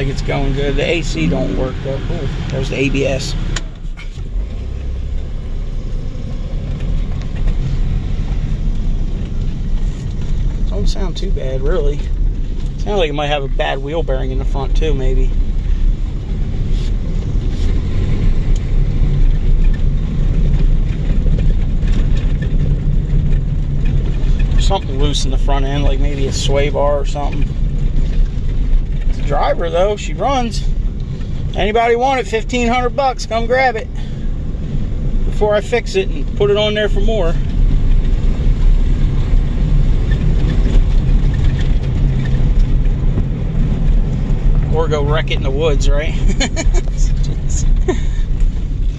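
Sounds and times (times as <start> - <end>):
engine and road drone: 0.0 - 48.9.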